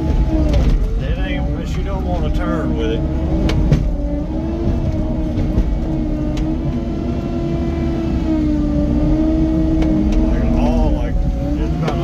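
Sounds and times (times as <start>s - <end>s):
diesel engine droning under load: 0.0s - 12.0s.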